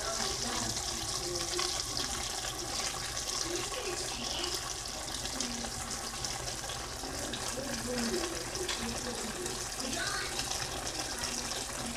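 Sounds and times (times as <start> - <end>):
food sizzling in a wok: 0.0 - 11.9.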